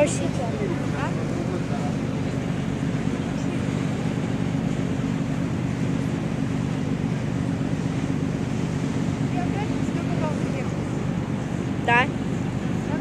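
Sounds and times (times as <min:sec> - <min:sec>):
rushing water: 0:00.0 - 0:13.0
ship diesel engine drone: 0:00.0 - 0:13.0
wind: 0:00.0 - 0:13.0.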